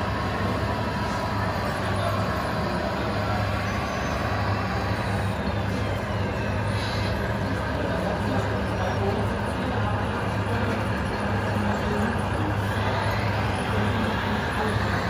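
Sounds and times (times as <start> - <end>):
toy truck engine hum: 0.0 - 15.0.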